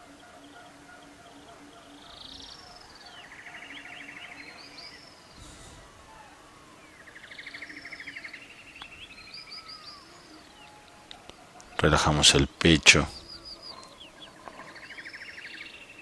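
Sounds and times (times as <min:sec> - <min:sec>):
songbird trilling and whistling: 0:00.0 - 0:11.5, 0:13.1 - 0:16.0.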